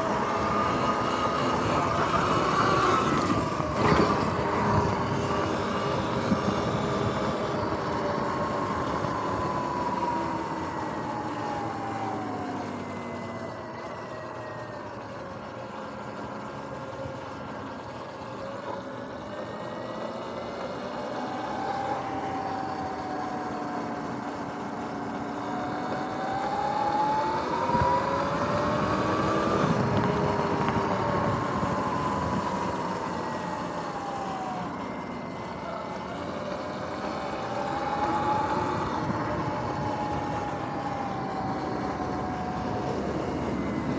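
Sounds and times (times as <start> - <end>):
electric dirt bike motor whining: 0.0 - 12.9, 19.4 - 43.9.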